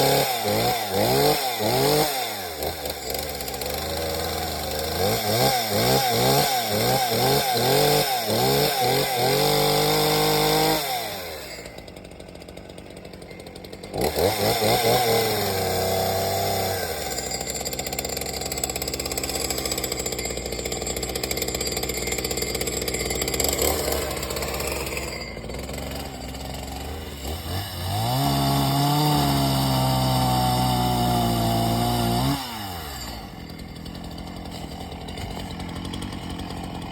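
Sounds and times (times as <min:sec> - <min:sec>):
chainsaw revving and idling: 0:00.0 - 0:36.9.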